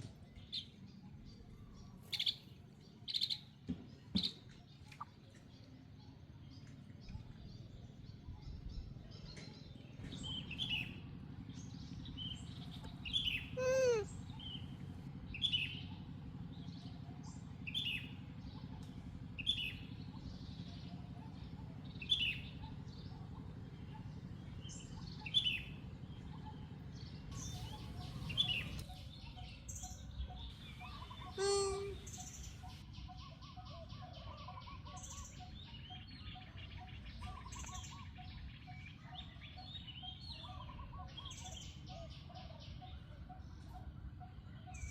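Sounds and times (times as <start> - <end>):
low background hum: 0.0 - 44.9
bird chirping: 6.5 - 44.9.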